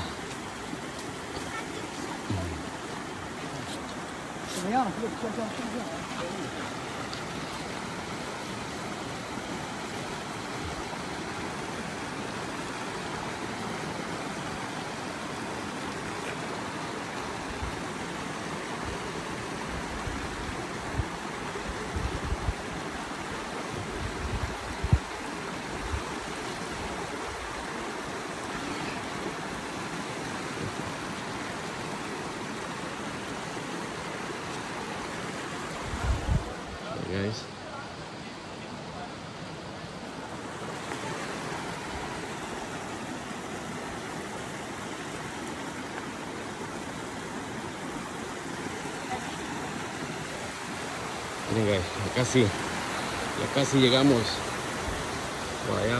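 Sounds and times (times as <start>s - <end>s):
creek water rushing over rocks: 0.0s - 55.9s.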